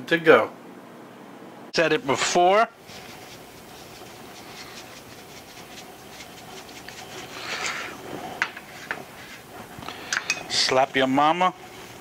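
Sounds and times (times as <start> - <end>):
seasoning shaker hiss: 2.0 - 12.0.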